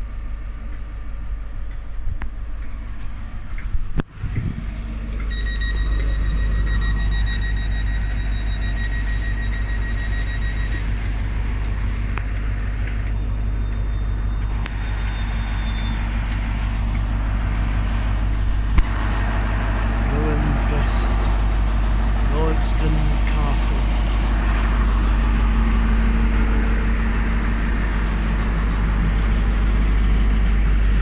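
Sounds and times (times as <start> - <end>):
diesel engine idling: 0.0 - 31.0
high electronic warning tone: 4.3 - 30.9.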